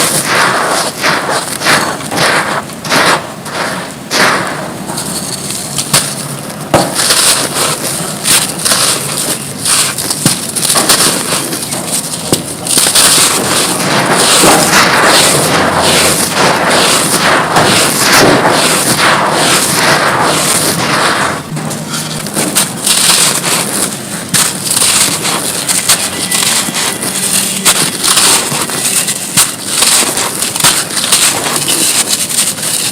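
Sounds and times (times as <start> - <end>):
dry mud crumbling and crunching: 5.4 - 32.9.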